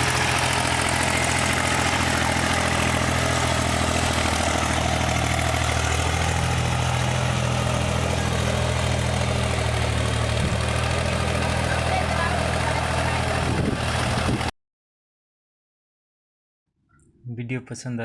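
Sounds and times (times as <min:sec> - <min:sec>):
tractor diesel engine running: 0:00.0 - 0:14.5.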